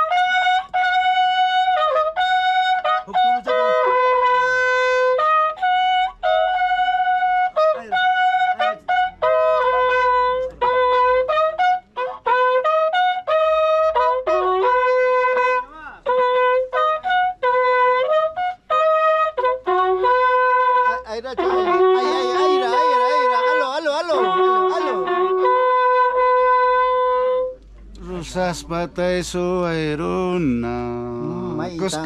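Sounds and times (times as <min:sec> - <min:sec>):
second horn wobbling notes: 0:00.0 - 0:28.6
horn trumpet melody: 0:00.0 - 0:32.0.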